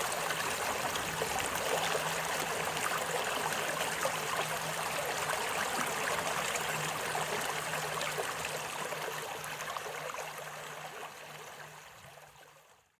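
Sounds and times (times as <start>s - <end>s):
creek water babbling: 0.0s - 12.8s.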